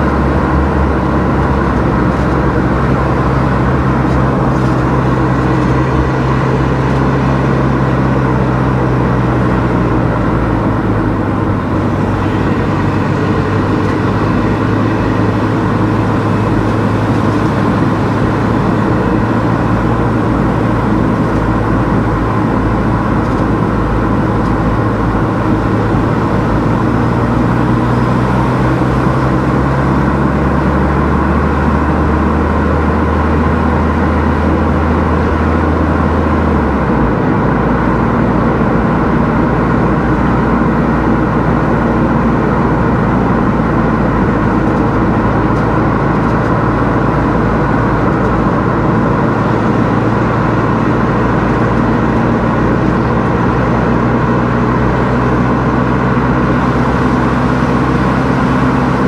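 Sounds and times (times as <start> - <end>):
car engine: 0.0 - 59.0
tyres on road: 0.0 - 59.0.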